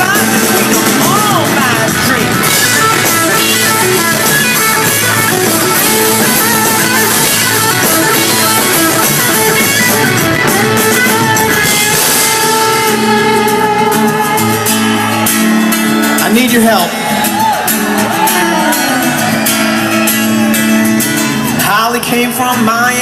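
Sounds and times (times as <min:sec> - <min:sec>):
electric guitar: 0:00.0 - 0:23.0
live rock band instrumental: 0:00.0 - 0:23.0.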